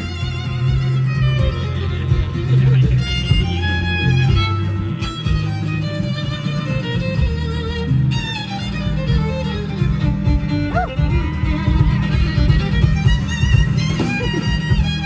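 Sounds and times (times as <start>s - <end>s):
bluegrass band playing: 0.0s - 15.0s
fiddle melody: 0.0s - 15.0s.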